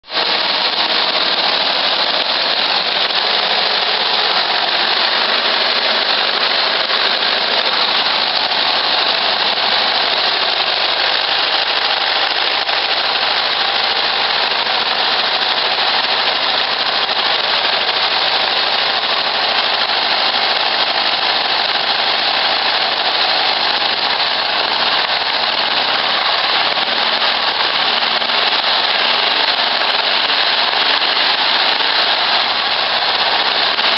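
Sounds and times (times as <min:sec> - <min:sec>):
car engine running: 0:00.1 - 0:33.9.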